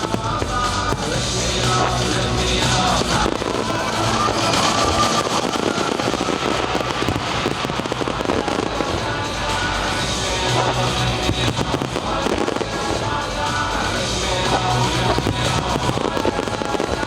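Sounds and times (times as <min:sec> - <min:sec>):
fireworks crackling and popping: 0:00.0 - 0:17.0
loud music: 0:00.0 - 0:17.0.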